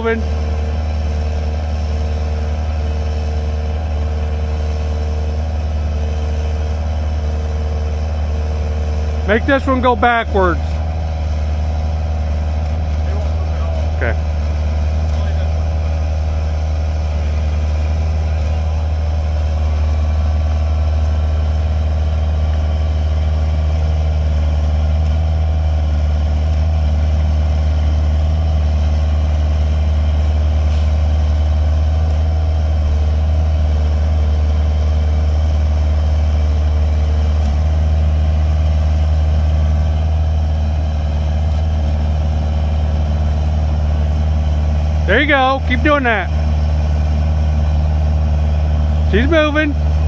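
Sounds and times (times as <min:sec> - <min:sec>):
excavator diesel engine drone: 0:00.0 - 0:50.0
excavator tracks and hydraulics: 0:00.0 - 0:50.0.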